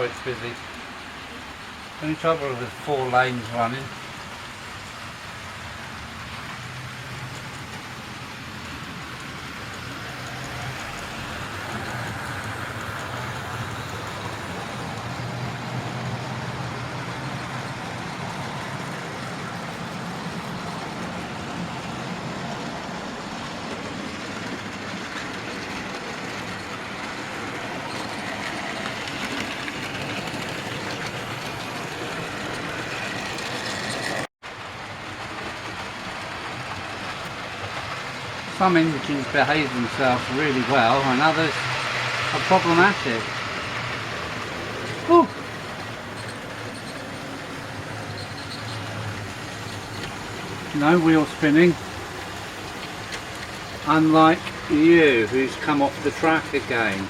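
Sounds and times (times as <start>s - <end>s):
model trains whirring on track: 0.0s - 57.0s.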